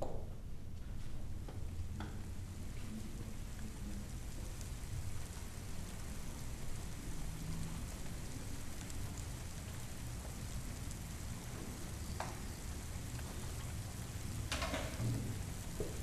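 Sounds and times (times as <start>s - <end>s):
steady rain: 0.4s - 16.0s.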